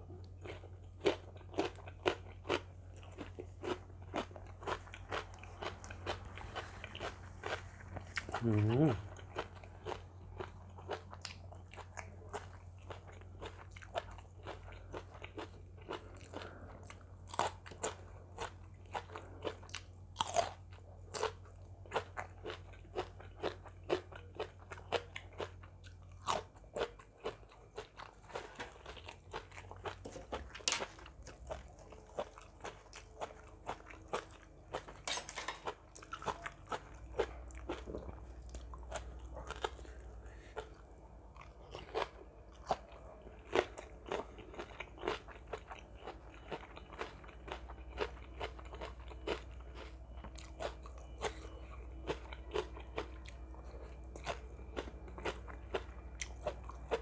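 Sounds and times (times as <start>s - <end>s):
crunchy chewing: 0.0s - 57.0s
faint low hum: 0.0s - 57.0s.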